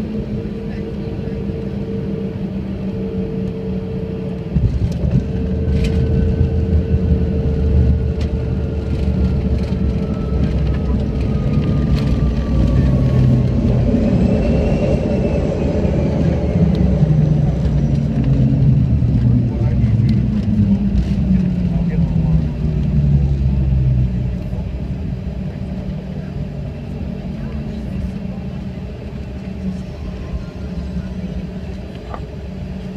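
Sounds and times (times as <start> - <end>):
runway rumble and engine noise: 0.0 - 32.9
steady engine tone: 0.0 - 32.9.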